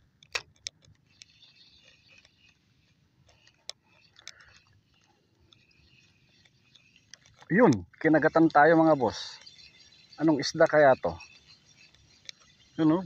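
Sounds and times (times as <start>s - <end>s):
fishing reel whirring and clicking: 0.0s - 13.0s.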